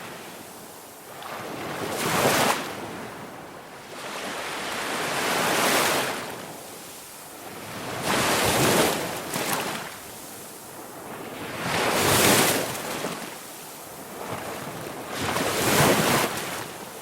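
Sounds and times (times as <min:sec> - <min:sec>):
ocean waves surging and washing back: 0:00.0 - 0:17.0.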